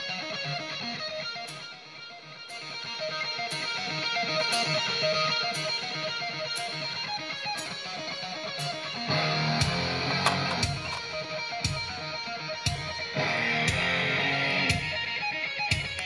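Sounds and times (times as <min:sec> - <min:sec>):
guitar music with beat: 0:00.0 - 0:16.0.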